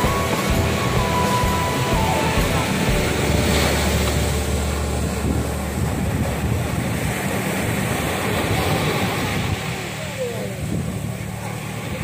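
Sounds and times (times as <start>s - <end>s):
steady low rumble: 0.0s - 12.0s
surf breaking on beach: 0.0s - 12.0s
wind buffeting microphone: 0.0s - 12.0s.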